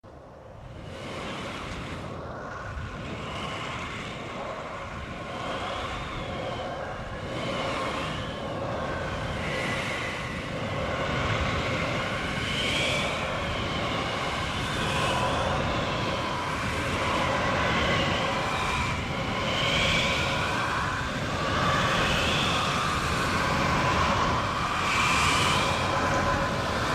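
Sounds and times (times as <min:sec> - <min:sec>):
low rumble of wind: 0:00.0 - 0:26.9.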